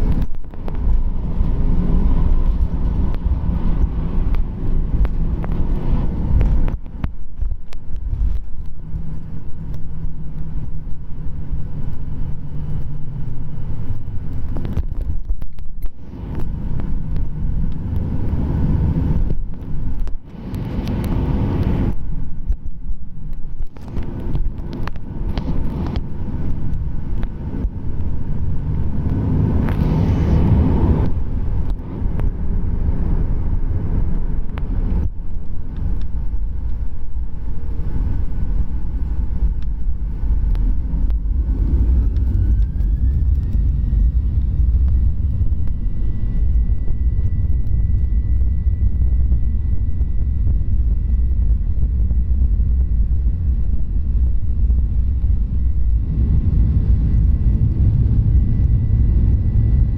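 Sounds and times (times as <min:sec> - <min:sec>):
jet cabin rumble: 0:00.0 - 0:59.9
jet engine whine: 0:00.0 - 0:59.9.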